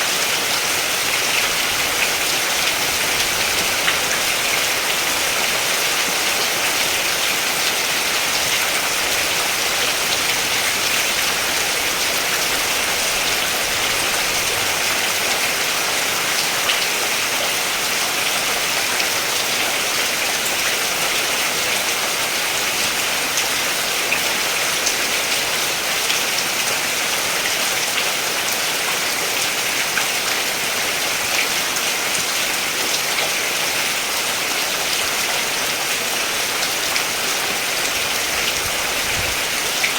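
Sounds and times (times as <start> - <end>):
steady rain hiss: 0.0 - 27.5, 28.2 - 39.9.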